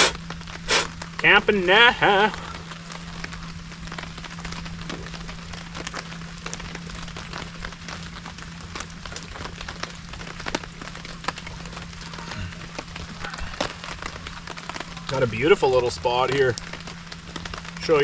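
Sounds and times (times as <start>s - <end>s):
heavy drips: 0.0s - 18.0s
steady rain falling: 0.0s - 18.0s.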